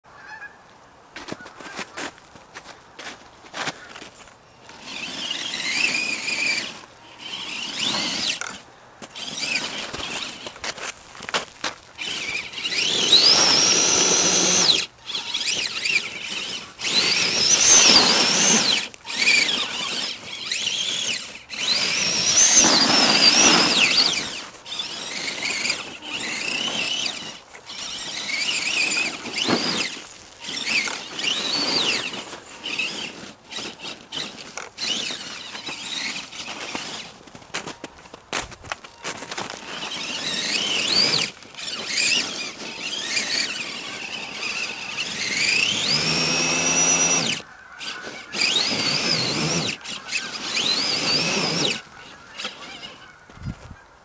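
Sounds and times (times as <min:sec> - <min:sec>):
toy truck electric motor whining: 0:03.6 - 0:53.7.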